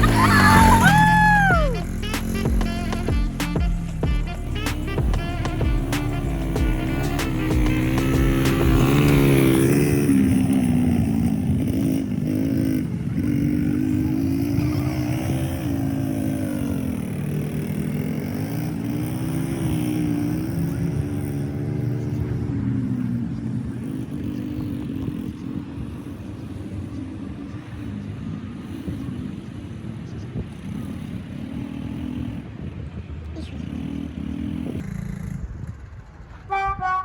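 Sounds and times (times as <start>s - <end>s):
small atv engine revving: 0.0s - 37.0s.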